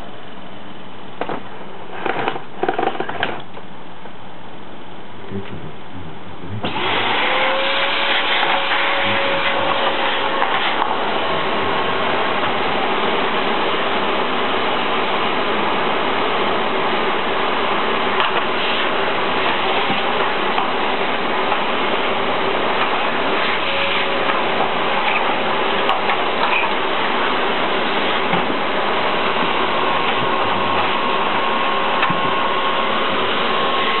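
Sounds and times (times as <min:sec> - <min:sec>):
vacuum cleaner running: 0:06.6 - 0:34.0.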